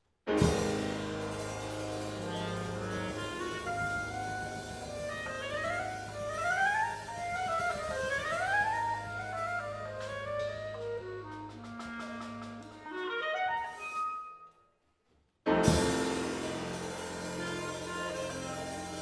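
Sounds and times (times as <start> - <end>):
music: 0.3 - 14.8, 15.5 - 19.0
jazz clarinet with big band: 0.4 - 14.4, 15.6 - 19.0.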